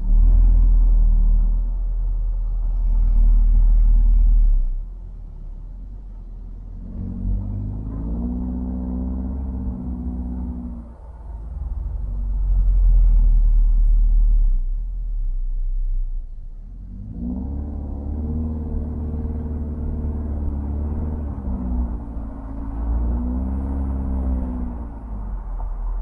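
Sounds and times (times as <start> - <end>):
car exhaust rumble: 0.0 - 26.0.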